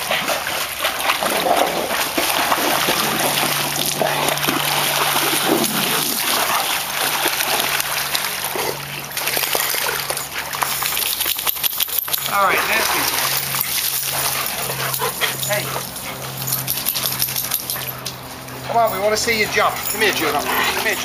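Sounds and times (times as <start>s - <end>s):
dogs splashing in pool water: 0.0s - 21.0s
low hum: 0.2s - 21.0s.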